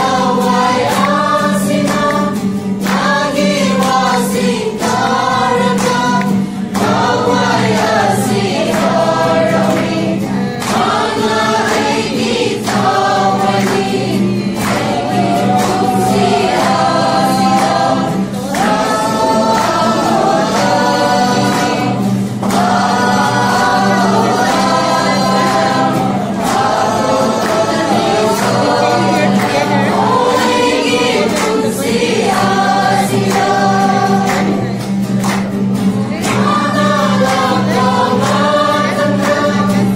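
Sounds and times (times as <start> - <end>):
acoustic guitar: 0.0 - 39.9
group singing: 0.0 - 39.9.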